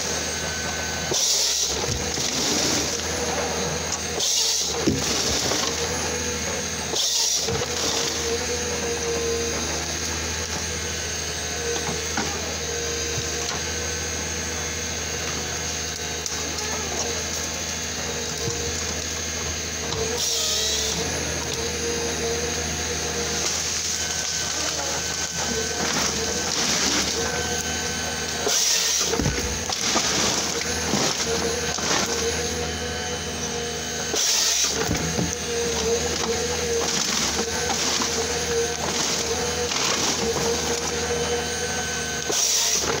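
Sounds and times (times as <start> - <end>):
chainsaw cutting tree trunk: 0.0 - 43.0
diesel engine and hydraulics whine: 0.0 - 43.0.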